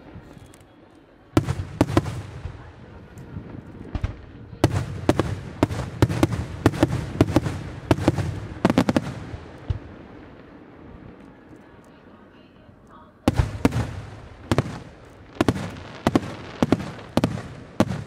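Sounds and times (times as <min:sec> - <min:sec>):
fireworks bangs: 0:01.3 - 0:18.0.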